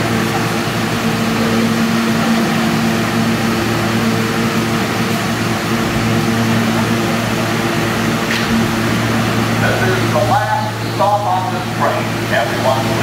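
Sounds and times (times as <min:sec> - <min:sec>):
subway train hum: 0:00.0 - 0:13.0.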